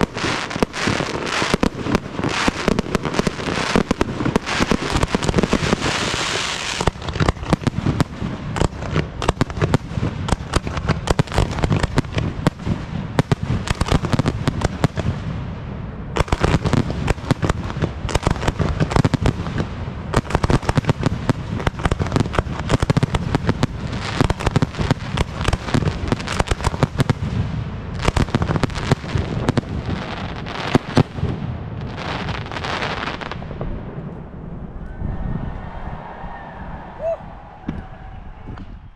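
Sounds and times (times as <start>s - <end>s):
fireworks crackle: 0.0s - 15.3s, 16.2s - 34.9s.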